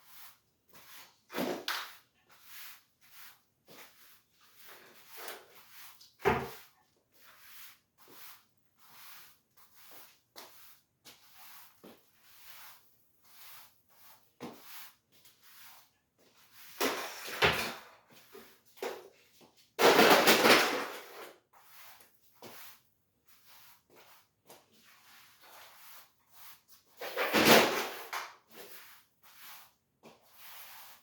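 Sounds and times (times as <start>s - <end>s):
broom scraping: 0.0s - 31.0s
broom sweeping floor: 0.0s - 31.0s.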